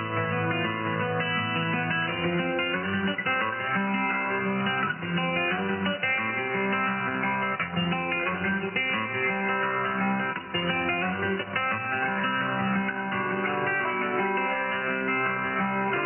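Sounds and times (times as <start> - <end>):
muffled guitar music on radio: 0.0 - 16.0.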